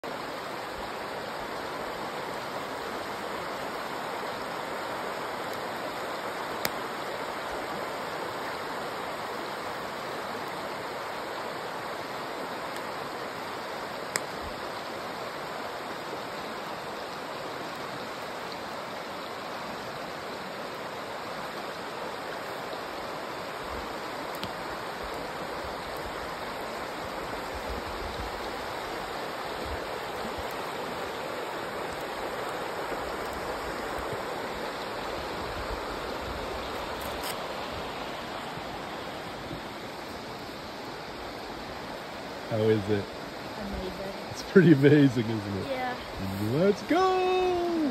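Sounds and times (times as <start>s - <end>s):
rocky stream rushing: 0.0s - 47.9s.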